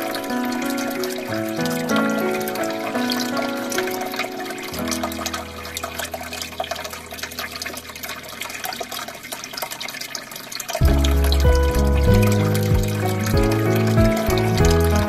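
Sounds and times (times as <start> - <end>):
soft background music: 0.0 - 9.1, 10.8 - 15.0
aquarium water trickling and splashing: 0.0 - 15.0
fine droplets and bubbles crackling: 0.0 - 15.0.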